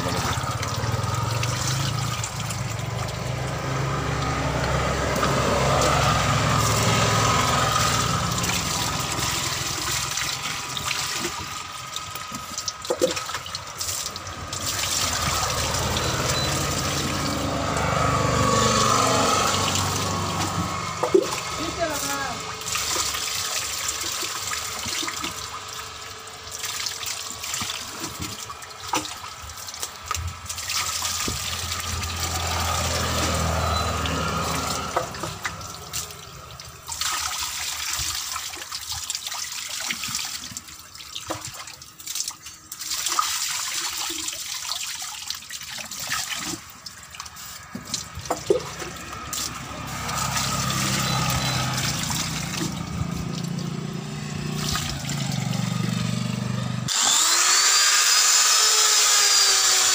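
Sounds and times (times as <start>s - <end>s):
water splashing: 0.0s - 56.5s.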